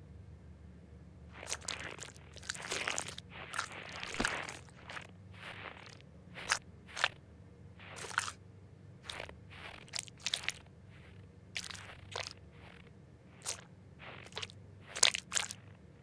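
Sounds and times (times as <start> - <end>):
cartoon wet-dry picking noises: 1.4 - 7.2, 7.8 - 8.4, 9.0 - 15.7.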